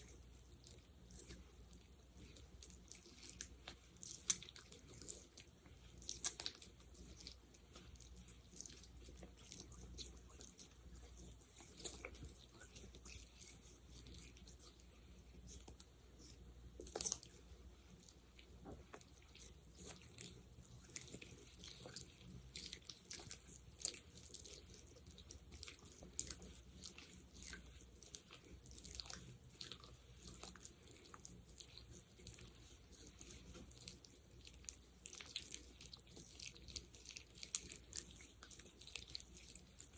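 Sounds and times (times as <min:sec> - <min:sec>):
sticky wet gel crackling: 0:00.0 - 0:39.9.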